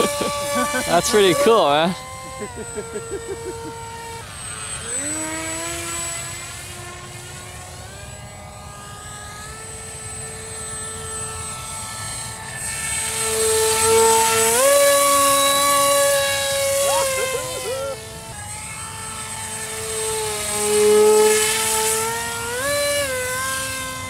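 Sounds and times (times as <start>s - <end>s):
model plane electric motor whining: 0.0s - 24.0s.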